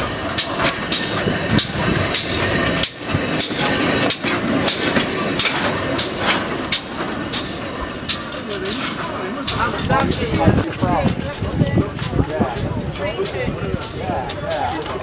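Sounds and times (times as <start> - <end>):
steam locomotive passing: 0.0 - 15.0.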